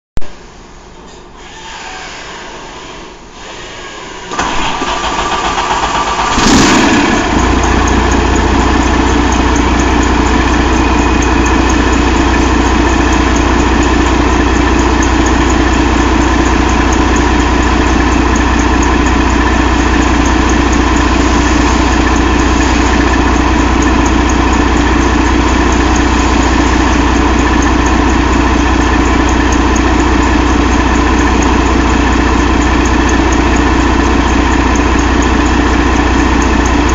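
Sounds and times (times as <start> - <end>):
diesel engine idling: 4.3 - 36.9
diesel engine starter cranking: 4.3 - 36.9.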